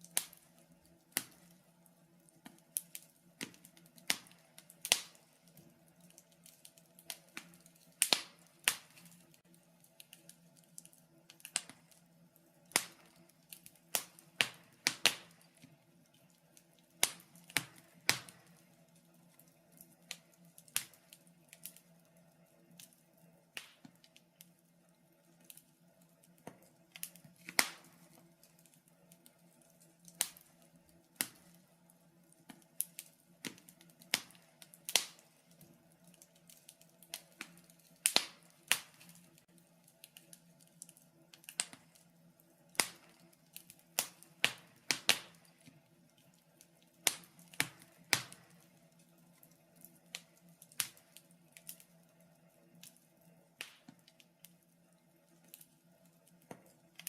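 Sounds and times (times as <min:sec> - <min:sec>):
faint steady low hum: 0:00.0 - 0:57.0
wood fire crackling: 0:00.0 - 0:57.0.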